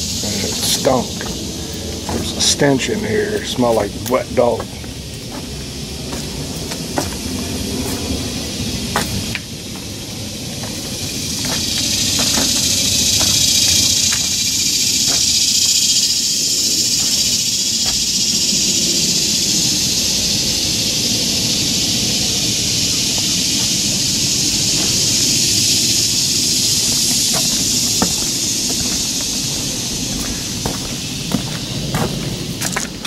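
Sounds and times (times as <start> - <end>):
loud steady hiss: 0.0 - 33.0.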